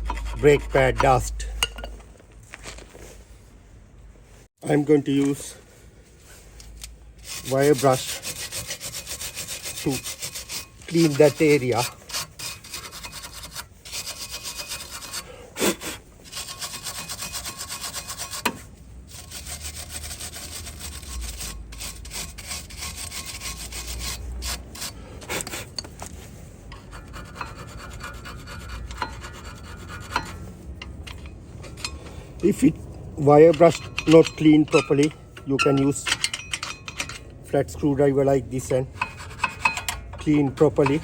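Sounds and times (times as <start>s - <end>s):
wire brush scratching metal: 0.0s - 1.5s, 7.2s - 41.0s.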